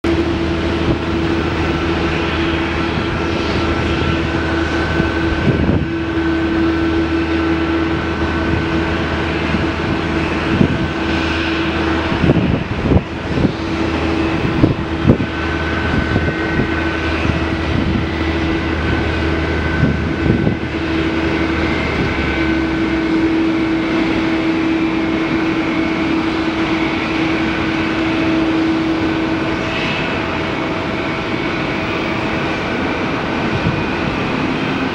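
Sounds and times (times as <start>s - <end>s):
jet engines droning: 0.0s - 34.9s
low hum: 0.0s - 34.9s.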